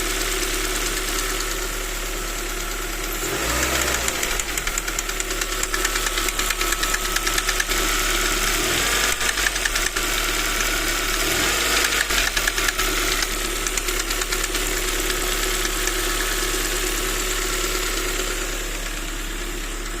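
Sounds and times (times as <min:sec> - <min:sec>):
car engine with knocking tick: 0:00.0 - 0:20.0.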